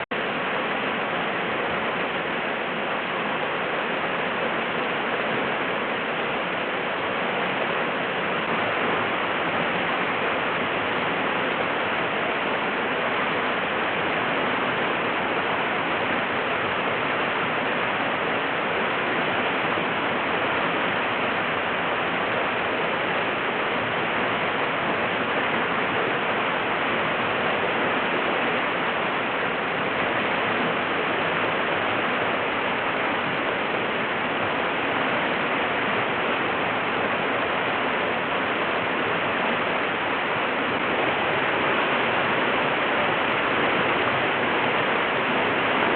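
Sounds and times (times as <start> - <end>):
whitewater rushing: 0.0 - 45.9.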